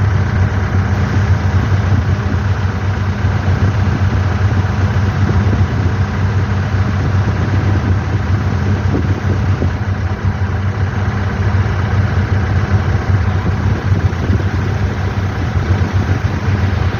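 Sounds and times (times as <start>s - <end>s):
airliner engines humming: 0.0s - 16.9s.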